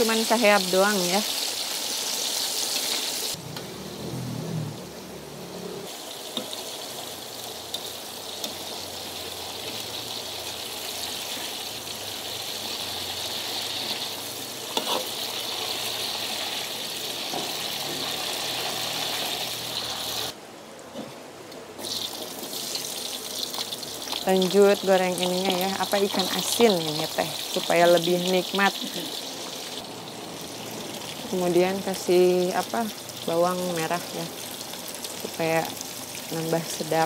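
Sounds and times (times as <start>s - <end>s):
vegetables sizzling in hot oil: 0.0s - 20.4s, 21.8s - 37.0s.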